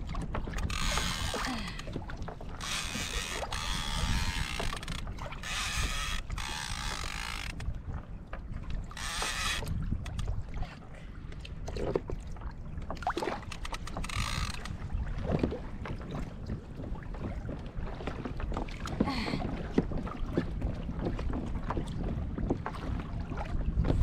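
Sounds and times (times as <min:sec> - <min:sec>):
water lapping against hull: 0:00.0 - 0:24.0
wind on microphone: 0:00.0 - 0:24.0.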